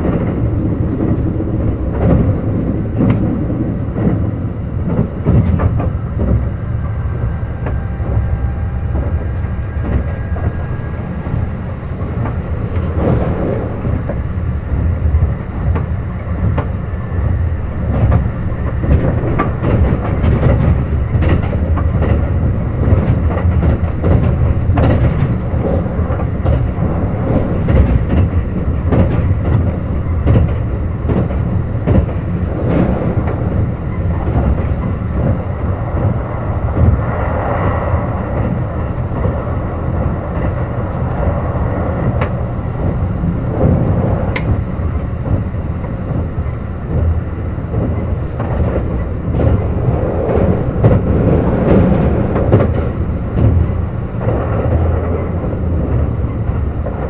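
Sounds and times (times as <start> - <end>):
rail joint clicks: 0.0 - 57.0
train wheels rumbling on rail: 0.0 - 57.0.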